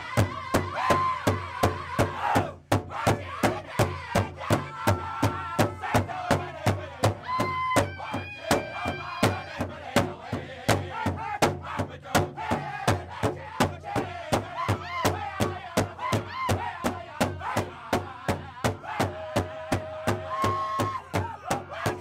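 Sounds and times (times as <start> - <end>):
large drum beating: 0.0 - 22.0
men singing in high voices: 0.0 - 22.0.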